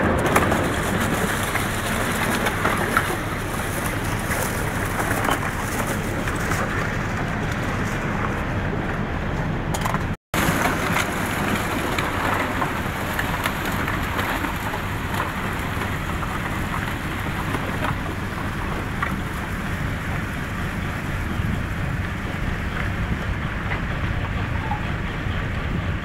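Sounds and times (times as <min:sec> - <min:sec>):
ice crackling against hull: 0:00.0 - 0:08.7, 0:09.7 - 0:24.9
boat engine droning: 0:00.0 - 0:26.0.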